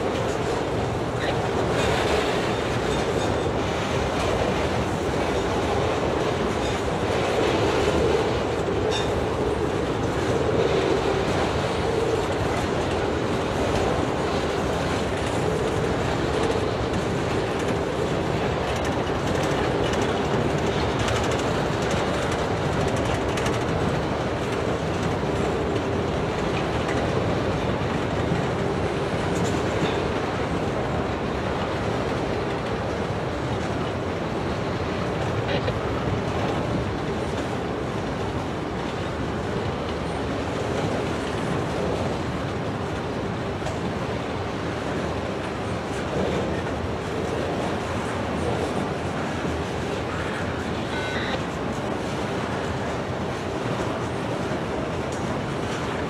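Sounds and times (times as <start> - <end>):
clicks of train wheels: 0.0 - 56.0
train wheels rumbling on rails: 0.0 - 56.0.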